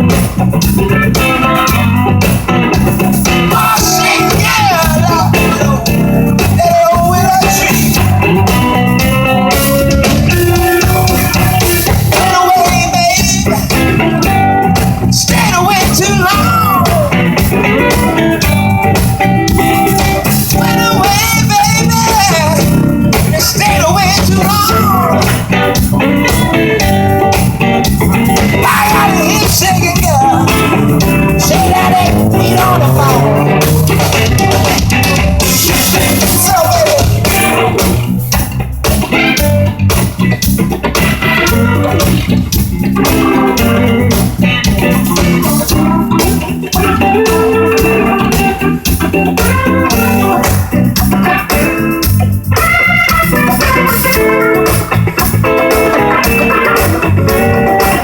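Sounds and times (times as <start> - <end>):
bass line: 0.0 - 58.0
blues electric guitar: 0.0 - 58.0.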